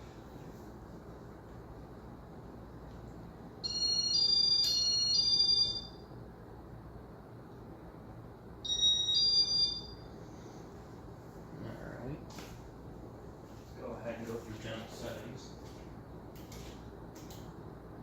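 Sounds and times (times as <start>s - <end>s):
steady low whir: 0.0s - 18.0s.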